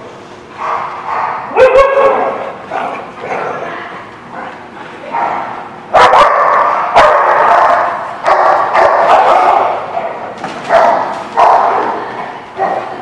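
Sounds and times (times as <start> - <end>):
dogs barking and yipping: 0.6 - 3.3, 5.1 - 13.0.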